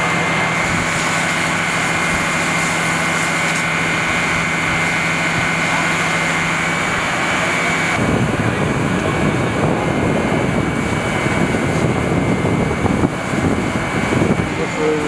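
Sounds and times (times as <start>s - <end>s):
hose jet spraying water: 0.0s - 15.0s
pump engine whining: 0.0s - 15.0s.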